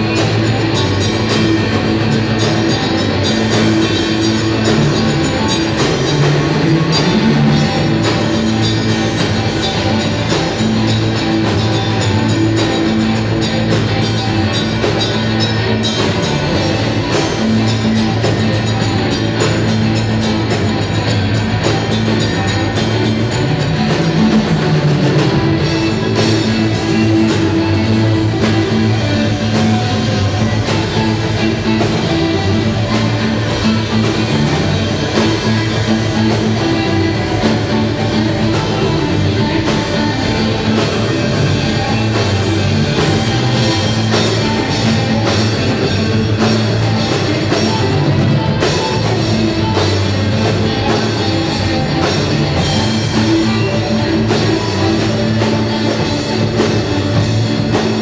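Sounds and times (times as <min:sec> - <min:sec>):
electric guitar: 0:00.0 - 0:58.0
funk band playing: 0:00.0 - 0:58.0.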